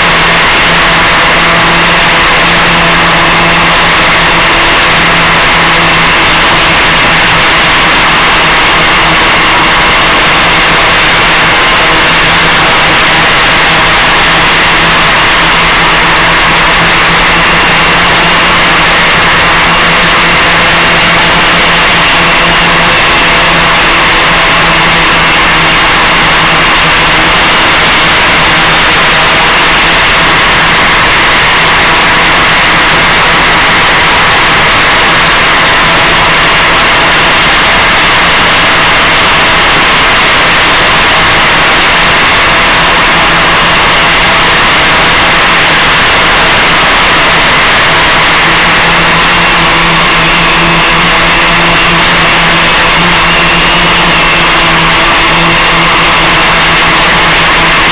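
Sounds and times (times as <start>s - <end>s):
loud steady hiss: 0.0s - 57.9s.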